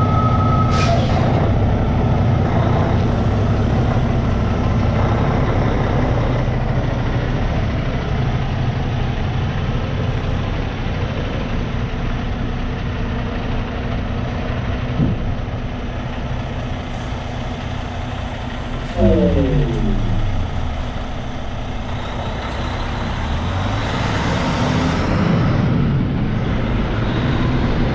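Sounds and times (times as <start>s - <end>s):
diesel truck engine droning: 0.0s - 27.9s
road noise: 0.0s - 27.9s.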